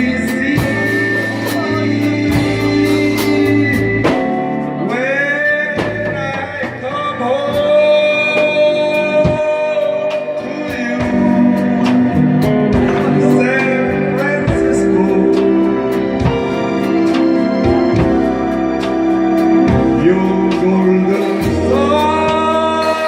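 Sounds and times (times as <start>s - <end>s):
steady drum beat: 0.0s - 5.0s, 5.7s - 23.0s
guitar: 0.0s - 23.0s
slow song with gliding melody: 0.0s - 23.0s.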